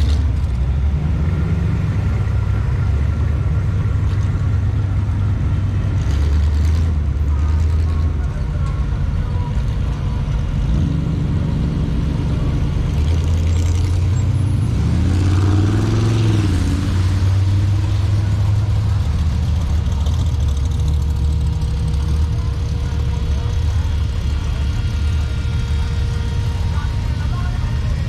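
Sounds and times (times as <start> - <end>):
hot rod engines rumbling: 0.0 - 28.0.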